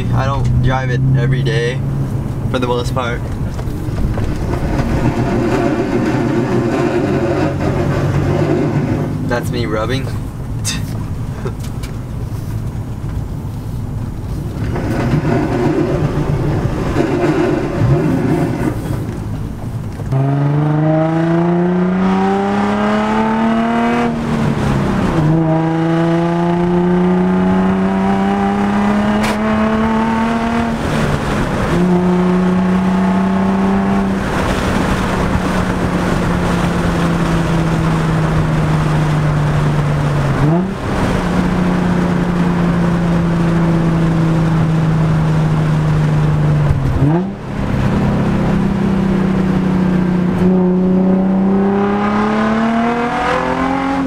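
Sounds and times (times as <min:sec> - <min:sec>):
car engine revving through gears: 0:00.0 - 0:10.7, 0:14.1 - 0:54.0.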